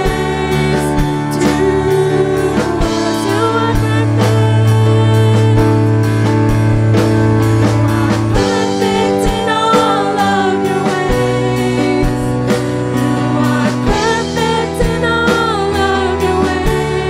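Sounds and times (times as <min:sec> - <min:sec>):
women singing praise song: 0:00.0 - 0:05.9, 0:07.8 - 0:17.0
drum kit beat: 0:00.0 - 0:17.0
keyboard chords: 0:00.0 - 0:17.0.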